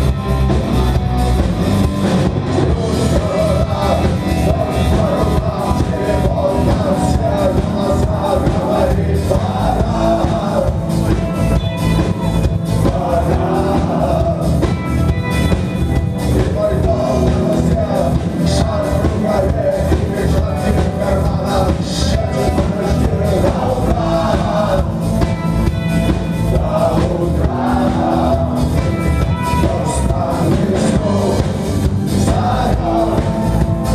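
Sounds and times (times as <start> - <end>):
bass guitar: 0.0 - 33.9
drum kit: 0.0 - 33.9
electric guitars: 0.0 - 33.9
person singing: 2.6 - 15.1, 16.2 - 25.8, 26.4 - 33.9.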